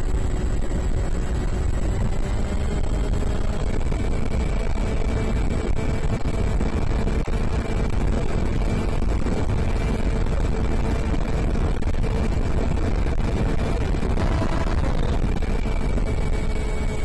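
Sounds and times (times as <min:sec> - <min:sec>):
electric motor whine: 0:00.0 - 0:17.0
wind buffeting microphone: 0:00.0 - 0:17.0.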